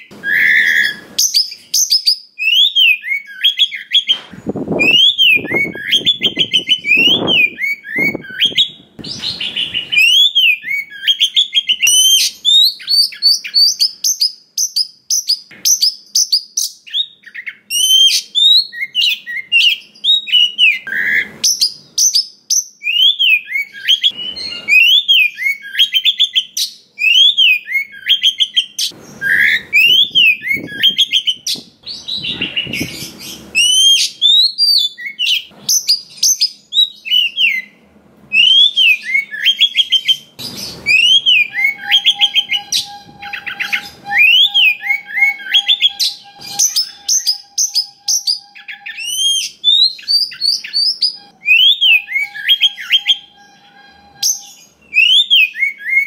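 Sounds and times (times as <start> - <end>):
bird singing chirps and whistles: 0.0 - 56.0.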